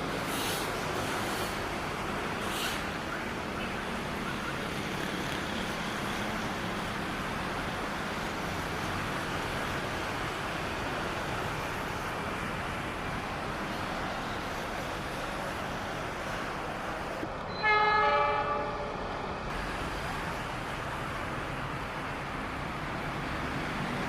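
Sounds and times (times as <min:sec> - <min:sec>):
train rumbling past on rails: 0:00.0 - 0:24.0.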